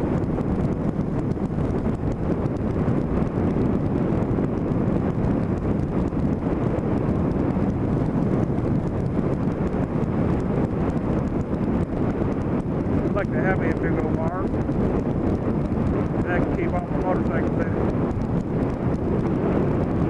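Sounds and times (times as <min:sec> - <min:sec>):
motorcycle engine cruising: 0:00.0 - 0:20.0
wind rush on microphone: 0:00.0 - 0:20.0.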